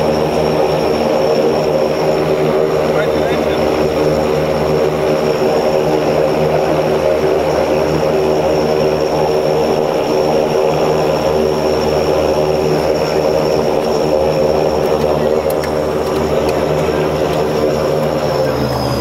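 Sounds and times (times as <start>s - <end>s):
high turbine whine: 0.0s - 19.0s
propeller drone: 0.0s - 19.0s.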